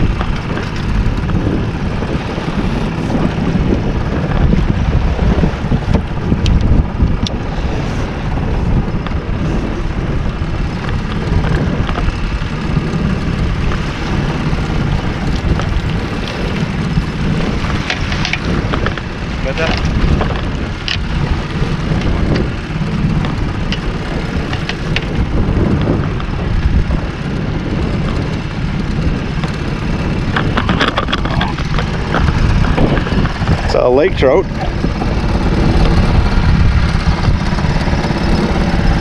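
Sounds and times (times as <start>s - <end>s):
outboard motor running: 0.0s - 39.0s
wind buffeting microphone: 0.0s - 39.0s.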